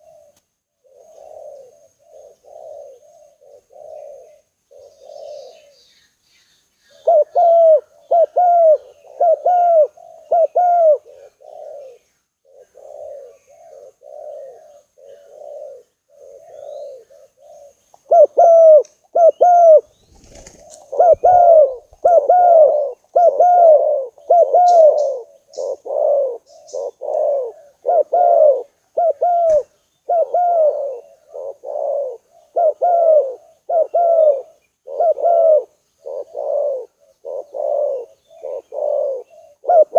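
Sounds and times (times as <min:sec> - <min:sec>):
dove cooing: 0:00.0 - 0:05.9, 0:06.9 - 0:39.9
small birds chirping: 0:00.0 - 0:39.9.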